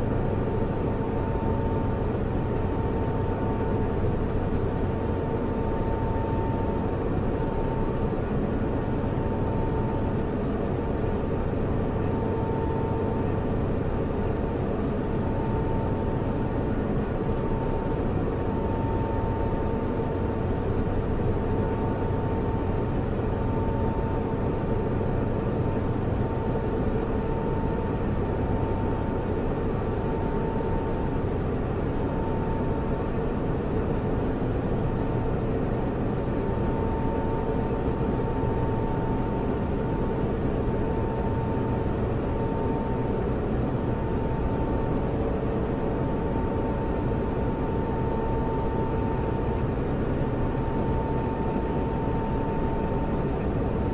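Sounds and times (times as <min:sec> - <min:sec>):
server cooling fans whirring: 0:00.0 - 0:53.9.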